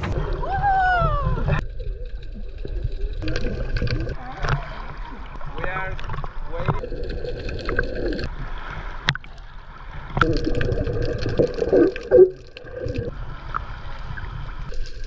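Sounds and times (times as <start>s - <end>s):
water sloshing and gurgling: 0.0s - 15.0s.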